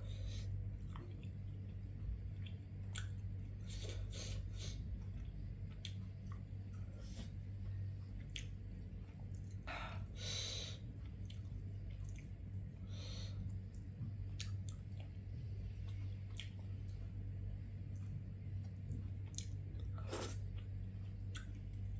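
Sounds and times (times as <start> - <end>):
low hum: 0.0 - 21.9
person chewing: 0.4 - 10.0, 10.7 - 17.3, 17.9 - 21.9.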